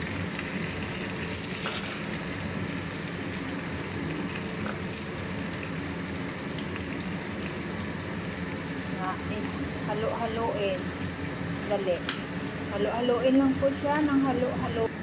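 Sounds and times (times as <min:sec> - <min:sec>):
steady low hum: 0:00.0 - 0:15.0
vegetables sizzling in hot oil: 0:00.0 - 0:15.0.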